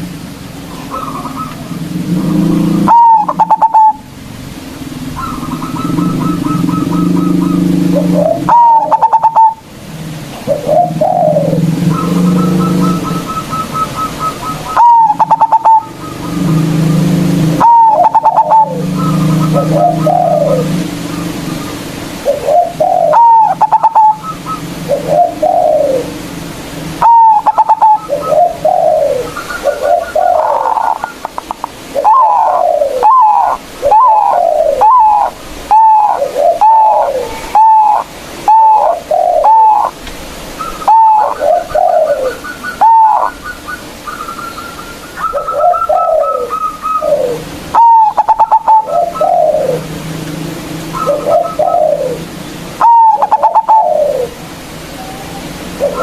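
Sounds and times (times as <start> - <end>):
dove cooing and trilling: 0.0 - 56.0.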